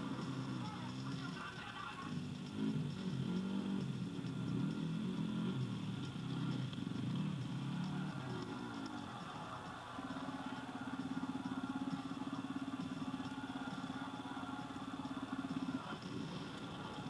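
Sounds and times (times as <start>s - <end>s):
pulsing vehicle engine hum: 0.0s - 17.0s.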